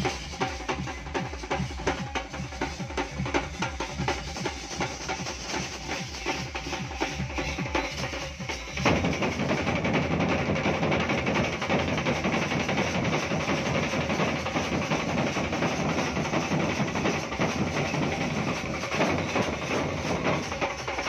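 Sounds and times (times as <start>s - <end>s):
drummers beating big drums: 0.0s - 21.0s.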